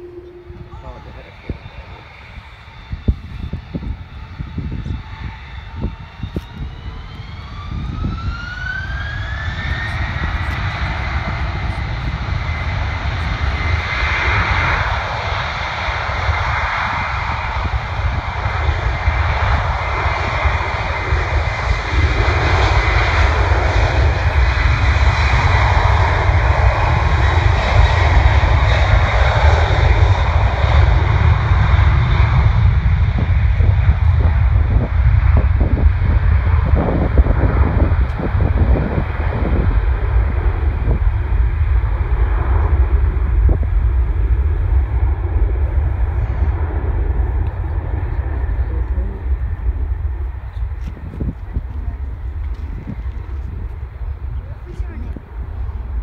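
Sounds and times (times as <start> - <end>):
jet airliner engines spooling up: 0.0 - 56.0.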